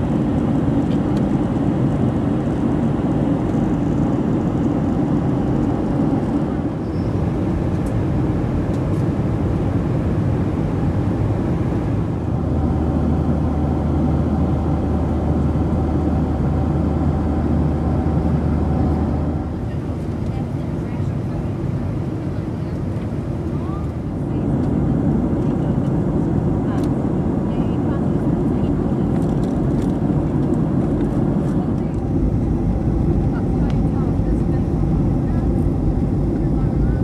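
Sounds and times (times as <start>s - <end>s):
jet engines: 0.0s - 37.0s
steady low hum: 0.0s - 37.0s
airplane cabin air rush: 1.8s - 37.0s.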